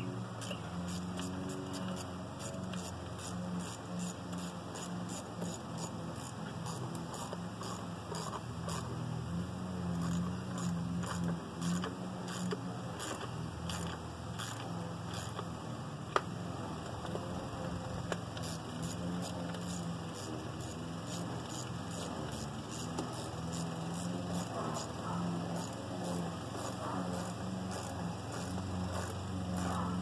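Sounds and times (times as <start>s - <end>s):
steady low hum: 0.0s - 30.0s
tools clicking on engine: 0.0s - 30.0s.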